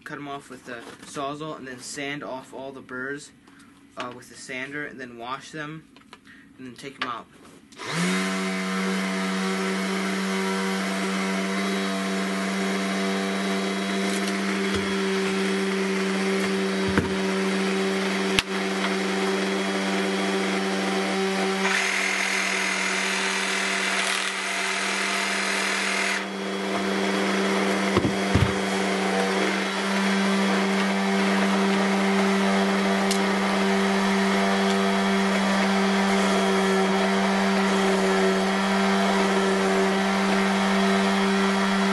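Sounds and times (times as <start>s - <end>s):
power tool cutting plastic pipe: 7.8s - 41.9s.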